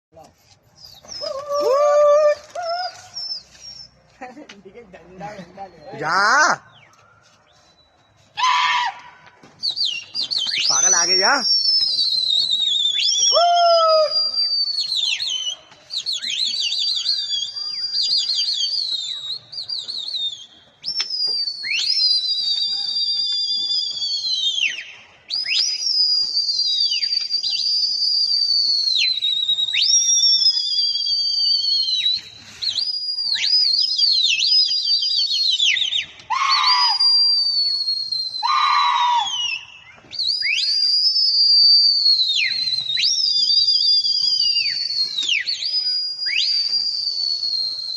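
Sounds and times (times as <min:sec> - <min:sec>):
loud shrill human whistling: 0:00.8 - 0:03.9, 0:09.6 - 0:47.9.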